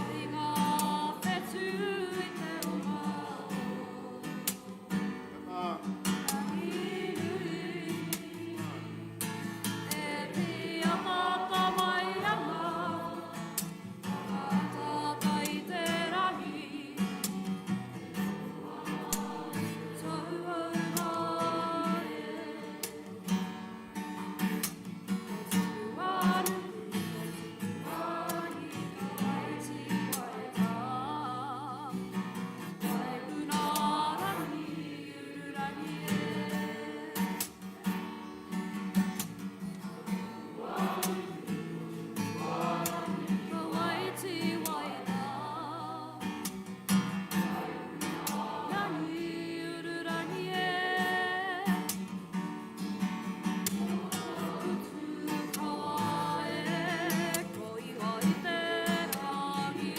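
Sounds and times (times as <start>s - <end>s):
group singing together: 0.0s - 59.9s
strummed acoustic guitar: 0.0s - 59.9s.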